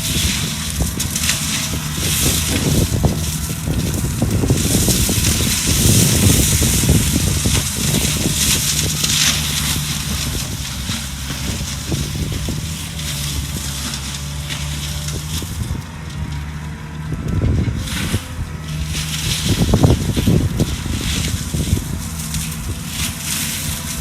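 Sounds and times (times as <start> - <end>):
engine running: 0.0 - 24.0
mulching drum crunching wood: 0.0 - 24.0.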